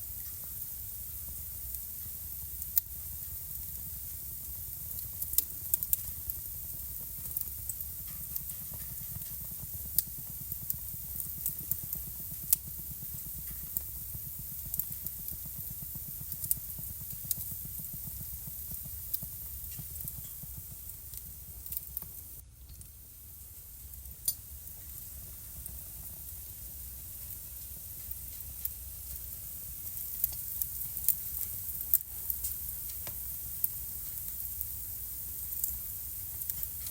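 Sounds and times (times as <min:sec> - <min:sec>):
fire rumbling and hissing: 0:00.0 - 0:36.9
logs crackling and popping: 0:00.2 - 0:23.0, 0:23.9 - 0:36.9.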